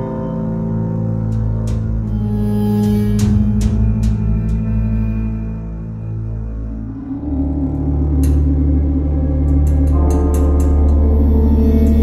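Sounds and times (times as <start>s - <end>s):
dark ambient drone music: 0.0s - 12.0s.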